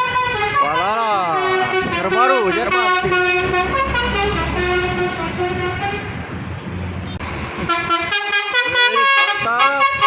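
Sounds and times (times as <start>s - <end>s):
musical bus horn melody: 0.0s - 6.3s, 7.6s - 10.0s
diesel engine and road noise: 0.0s - 10.0s.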